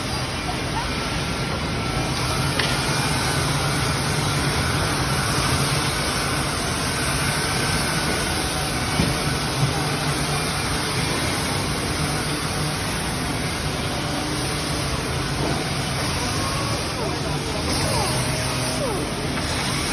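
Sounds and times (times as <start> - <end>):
woodworking machine motor whirring: 0.0 - 19.9.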